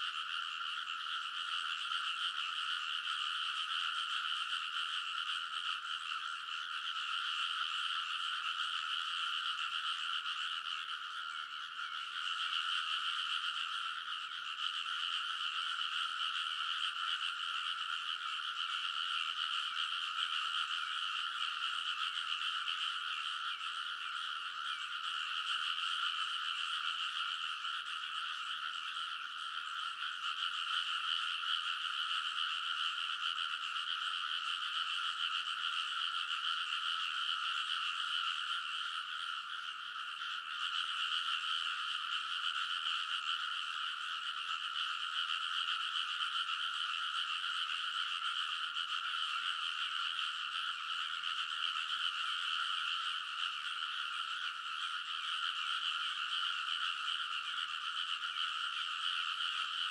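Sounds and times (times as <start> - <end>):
chorus of frogs croaking: 0.0 - 59.9.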